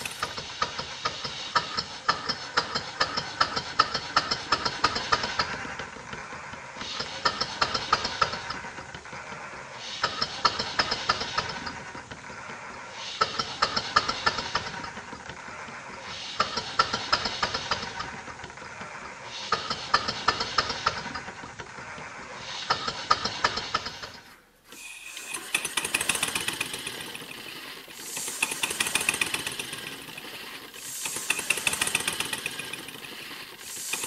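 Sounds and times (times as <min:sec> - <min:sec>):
model steam engine clattering: 0:00.0 - 0:34.0.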